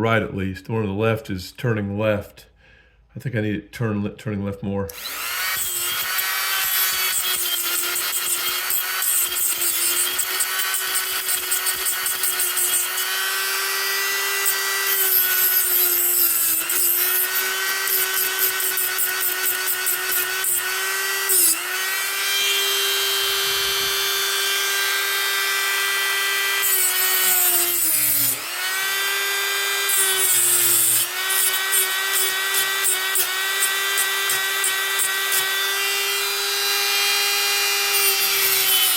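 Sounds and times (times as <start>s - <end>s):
rotary tool grinding metal: 4.9s - 38.9s.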